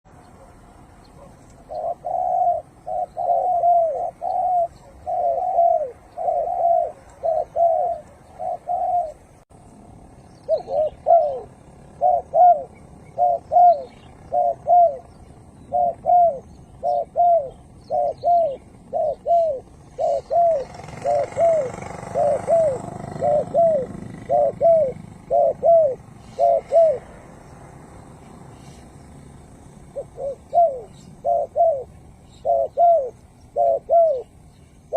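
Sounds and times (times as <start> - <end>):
dove cooing: 0.4 - 9.4, 10.4 - 34.9.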